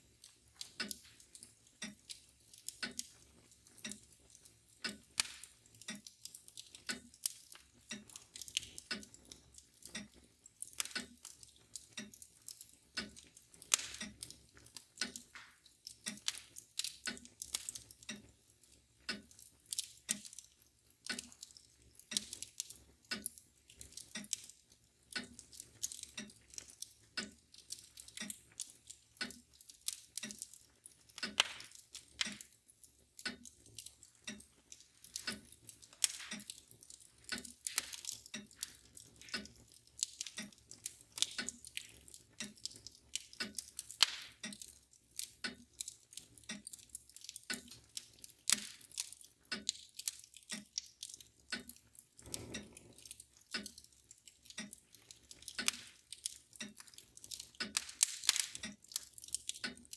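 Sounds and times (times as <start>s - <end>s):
mantel clock ticking: 0.0s - 59.9s
wood fire crackling and popping: 0.0s - 59.9s.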